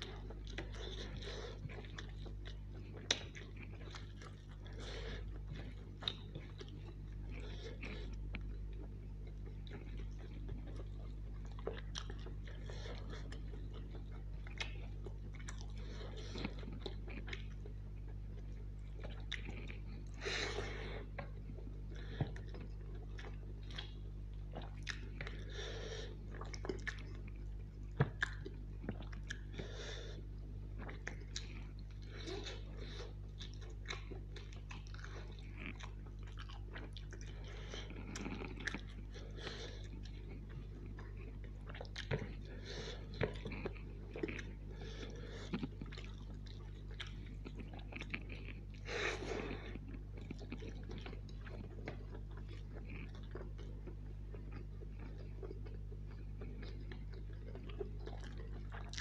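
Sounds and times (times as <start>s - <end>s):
chewing food: 0.0s - 59.0s.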